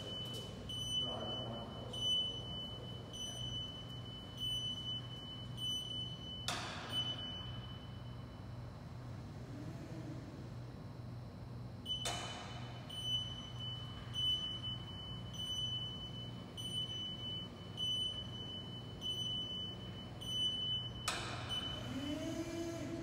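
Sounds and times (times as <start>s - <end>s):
high-pitched warning beeps: 0.0s - 8.8s, 11.8s - 23.0s
low machine hum: 0.0s - 23.0s.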